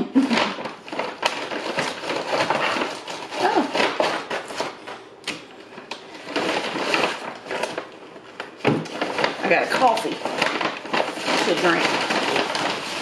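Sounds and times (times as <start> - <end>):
paper packaging rustling: 0.1 - 5.0, 5.7 - 13.0.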